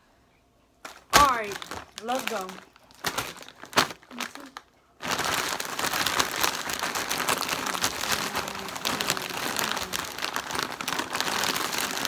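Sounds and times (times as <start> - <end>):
plastic chip bag crinkling: 0.8 - 12.0.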